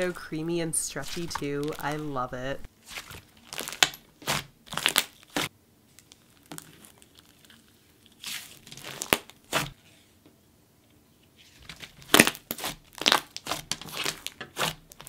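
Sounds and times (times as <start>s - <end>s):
slime squishing by hand: 0.0s - 9.9s, 11.7s - 15.0s.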